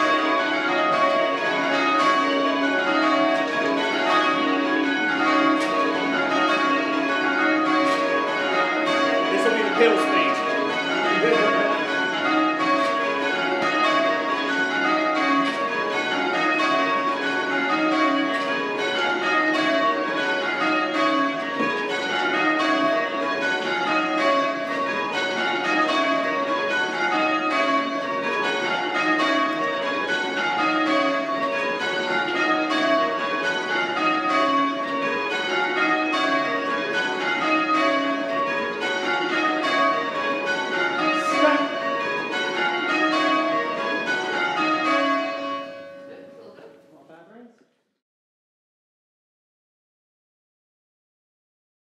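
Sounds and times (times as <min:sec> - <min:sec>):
church bells ringing in rounds: 0:00.0 - 0:47.2.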